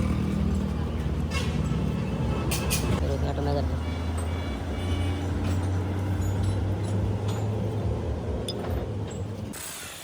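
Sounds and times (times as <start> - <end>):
engine running with low drone: 0.0 - 9.6.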